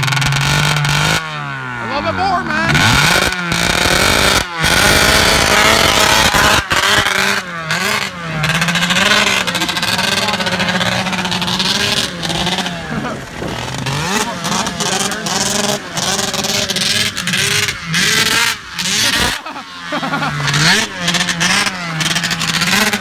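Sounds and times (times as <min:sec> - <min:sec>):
snowmobile engine running: 0:00.0 - 0:23.0.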